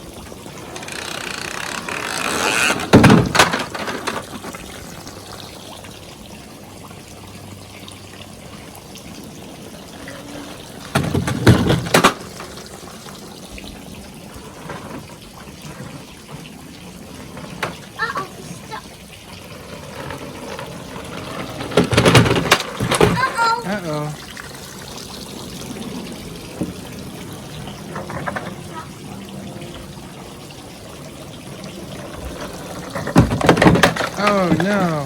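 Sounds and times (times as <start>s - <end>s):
sprinkler water running: 0.0s - 35.0s.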